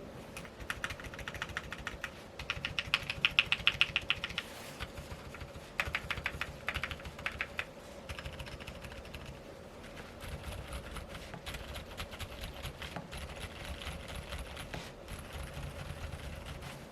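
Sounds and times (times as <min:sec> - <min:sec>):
soft mechanical keyboard typing: 0:00.4 - 0:16.8.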